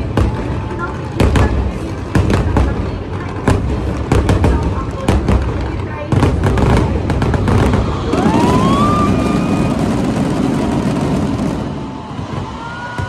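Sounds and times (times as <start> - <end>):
fireworks crackling and bursting: 0.0 - 13.0.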